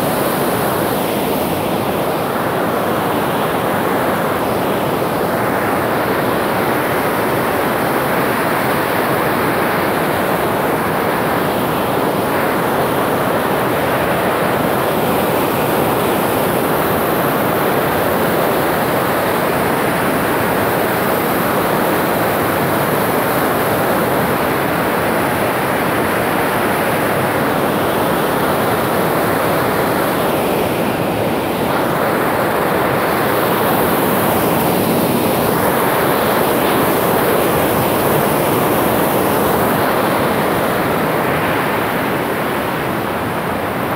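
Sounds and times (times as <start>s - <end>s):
water rushing through dam spillway: 0.0s - 43.9s.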